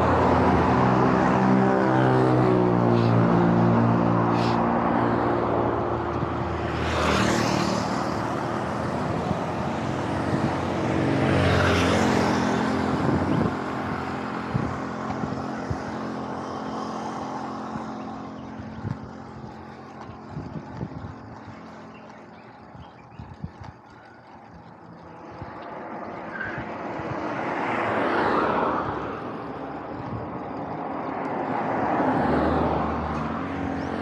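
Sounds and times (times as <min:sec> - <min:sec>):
traffic passing: 0:00.0 - 0:34.0.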